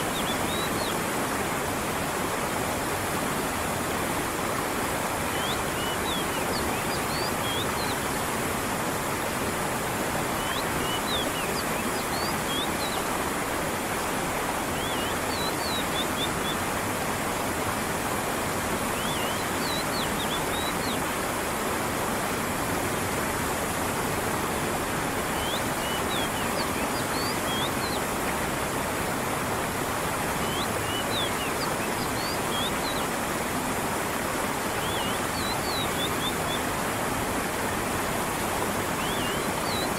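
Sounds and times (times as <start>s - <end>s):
creek rushing: 0.0s - 39.9s
falling water: 0.0s - 39.9s.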